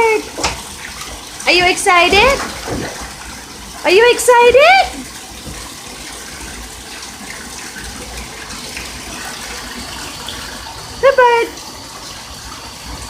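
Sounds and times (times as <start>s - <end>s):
water pouring into bathtub: 0.0s - 13.0s.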